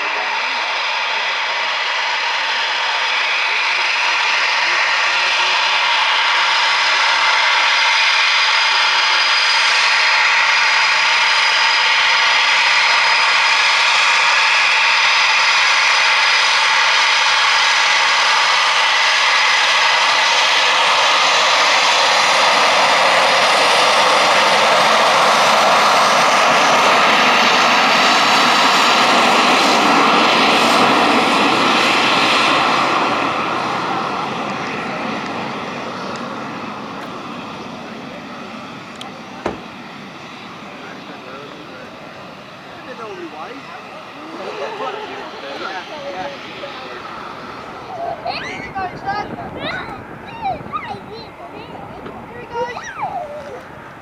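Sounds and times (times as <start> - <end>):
jet engines roaring and whining: 0.0 - 54.0.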